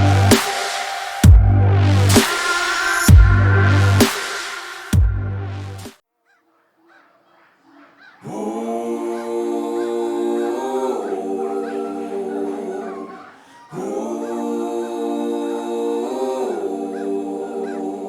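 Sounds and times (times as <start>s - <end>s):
choir-like sustained chords: 0.0s - 5.8s, 8.2s - 18.0s.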